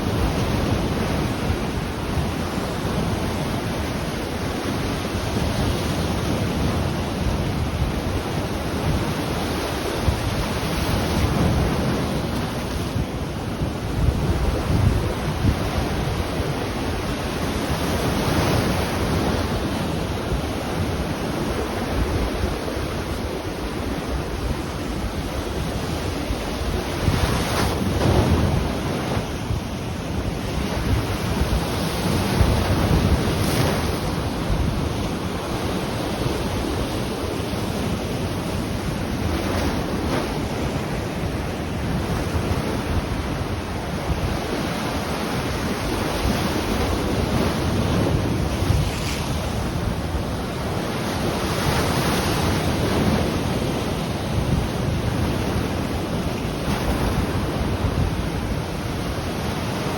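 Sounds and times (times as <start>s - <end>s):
ocean surf washing ashore: 0.0s - 59.9s
wind rumbling on microphone: 0.0s - 59.9s.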